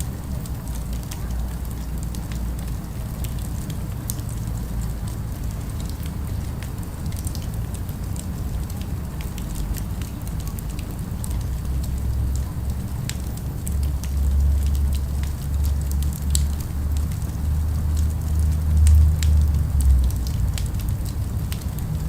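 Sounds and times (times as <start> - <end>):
fire crackling and popping: 0.0 - 22.0
low city ambience rumble: 0.0 - 22.0.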